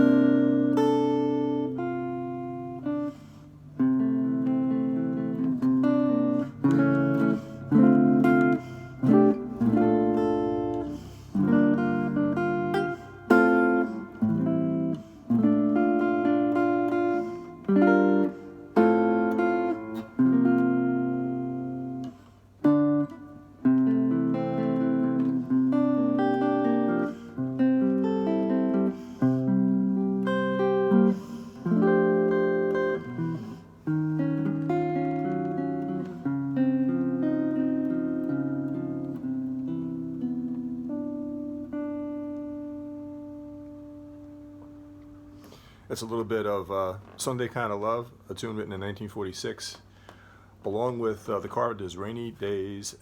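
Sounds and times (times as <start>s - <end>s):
solo guitar chord melody: 0.0s - 45.8s.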